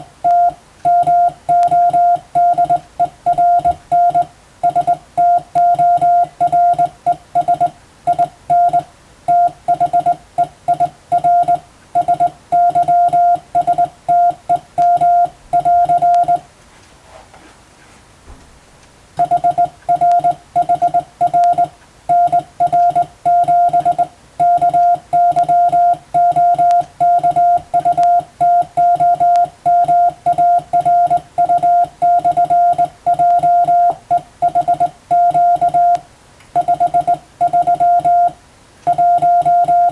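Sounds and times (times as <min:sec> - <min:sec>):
morse code tone: 0:00.2 - 0:16.4, 0:19.2 - 0:36.0, 0:36.6 - 0:39.9.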